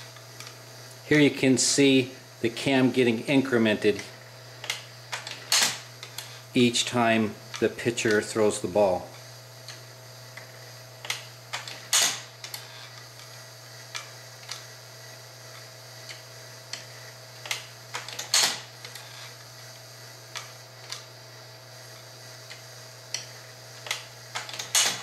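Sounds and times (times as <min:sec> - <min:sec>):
electric motor hum: 0:00.0 - 0:25.0.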